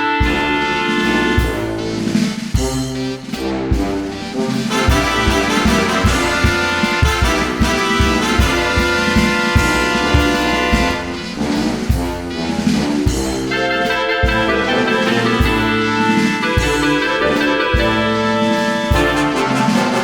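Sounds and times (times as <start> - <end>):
brass music over a beat: 0.0 - 20.0.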